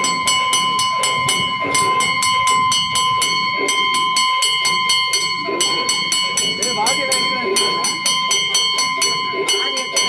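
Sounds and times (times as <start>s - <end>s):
bells ringing rapidly: 0.0s - 10.0s
steady ringing tones: 0.0s - 10.0s.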